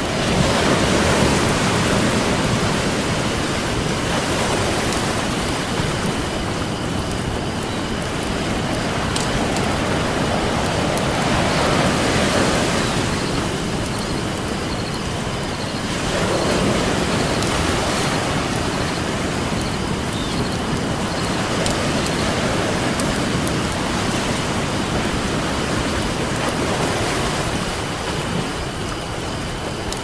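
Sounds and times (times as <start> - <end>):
campfire crackling and popping: 0.0 - 27.2
ocean surf washing: 0.0 - 30.0.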